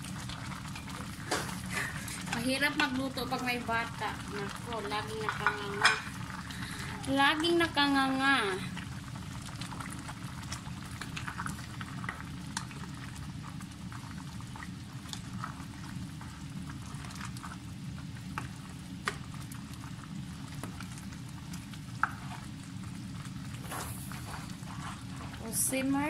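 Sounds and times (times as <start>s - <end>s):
soup bubbling in a pot: 0.0s - 26.0s
spatula stirring pot: 0.0s - 26.0s.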